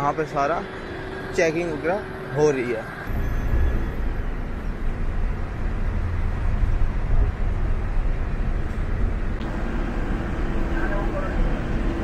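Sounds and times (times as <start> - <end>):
coach engine and road rumble: 0.0 - 12.0.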